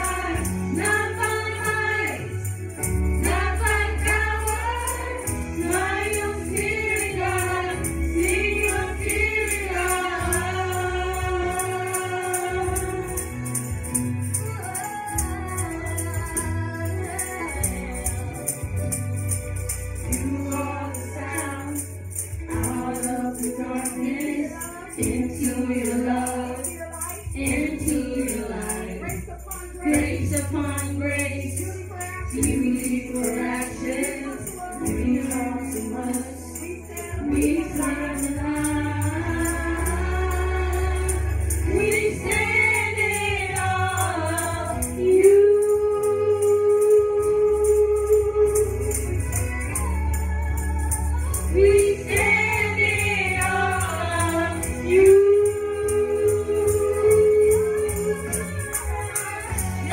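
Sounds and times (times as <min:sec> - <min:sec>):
group singing gospel song: 0:00.0 - 0:18.9, 0:20.0 - 0:59.9
backing music with bass: 0:00.0 - 0:59.9.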